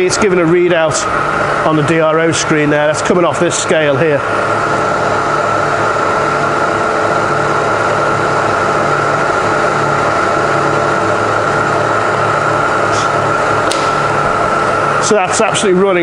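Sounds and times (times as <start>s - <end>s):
milling machine running: 0.0s - 16.0s.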